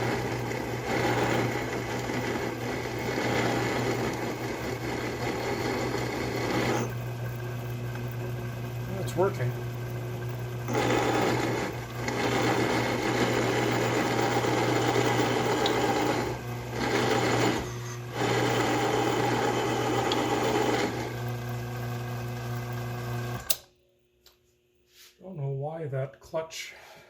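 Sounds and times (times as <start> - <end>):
drill bit boring into brass: 0.0 - 23.5
lathe motor hum: 0.0 - 23.5.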